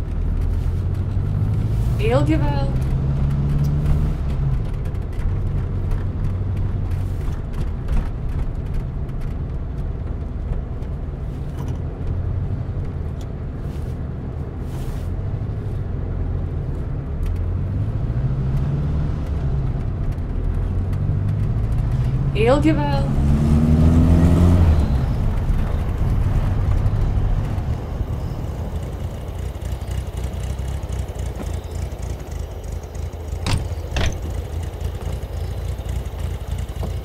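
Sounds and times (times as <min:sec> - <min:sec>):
car engine and road drone: 0:00.0 - 0:37.0.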